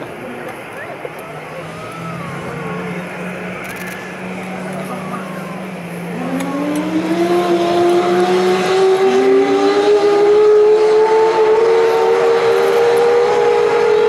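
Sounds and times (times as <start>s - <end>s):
lower turbine whine: 0.0s - 14.0s.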